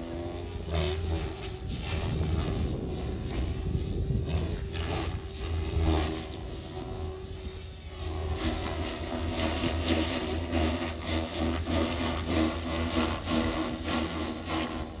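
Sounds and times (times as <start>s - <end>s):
model plane motor drone: 0.0s - 15.0s.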